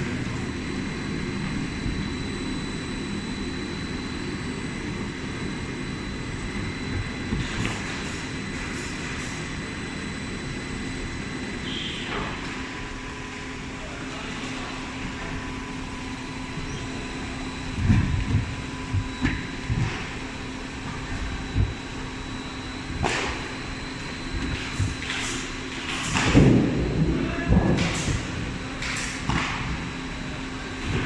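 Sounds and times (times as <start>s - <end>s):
lathe machinery hum and whine: 0.0s - 31.0s.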